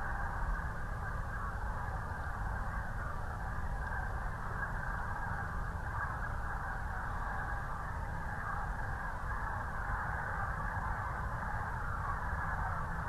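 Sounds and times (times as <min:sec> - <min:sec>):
many overlapping bird calls: 0:00.0 - 0:13.0.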